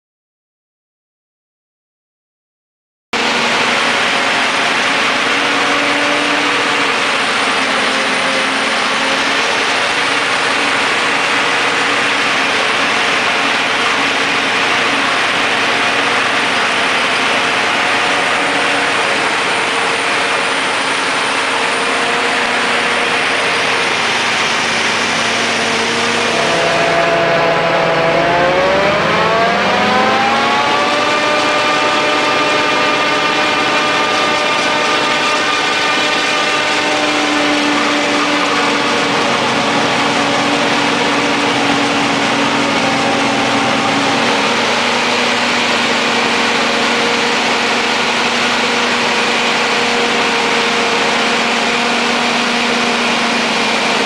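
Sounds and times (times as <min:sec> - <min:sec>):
forage harvester engine running: 0:03.2 - 0:54.0
machinery whine rising in pitch: 0:03.2 - 0:54.0.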